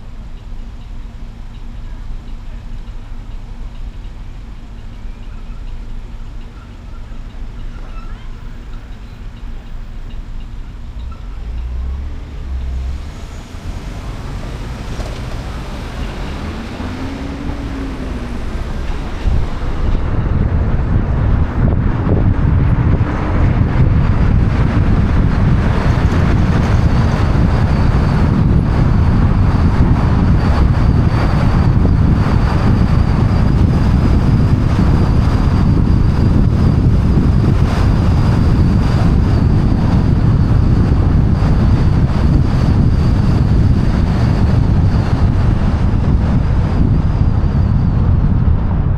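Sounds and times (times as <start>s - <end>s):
road noise from moving car: 0.0s - 48.9s.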